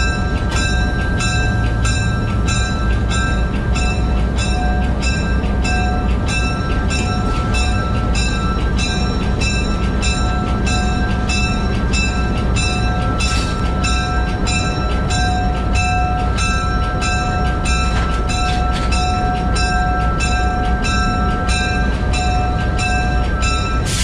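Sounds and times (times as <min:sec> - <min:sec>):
locomotive bell ringing: 0:00.0 - 0:24.0
locomotive engine rumbling: 0:00.0 - 0:24.0.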